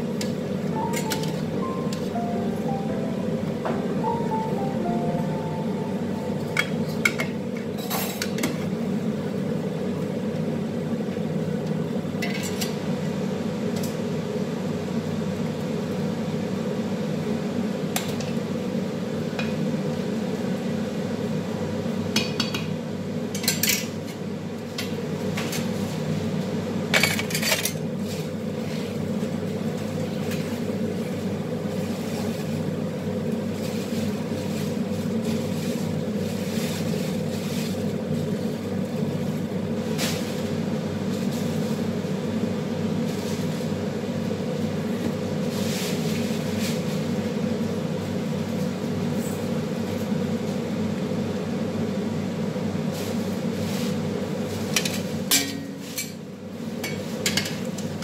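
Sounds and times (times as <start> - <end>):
low kitchen hum: 0.0 - 58.0.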